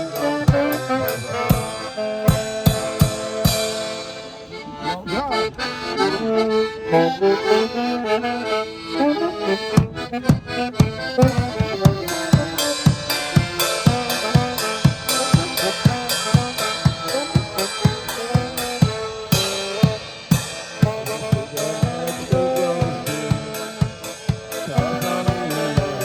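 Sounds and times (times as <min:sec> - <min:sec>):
drum beating: 0:00.0 - 0:04.6, 0:09.5 - 0:26.0
accordion dance tune: 0:00.0 - 0:26.0.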